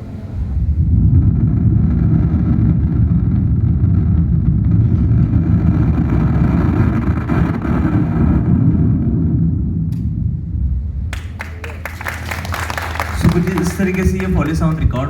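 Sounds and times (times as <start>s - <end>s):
rocket engine rumble: 0.0s - 15.0s.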